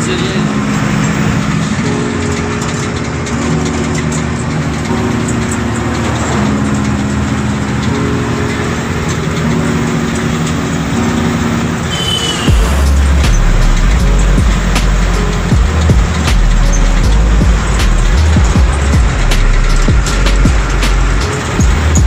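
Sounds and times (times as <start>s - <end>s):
low tones changing pitch: 0.0s - 22.0s
truck engine and road noise: 0.0s - 22.0s.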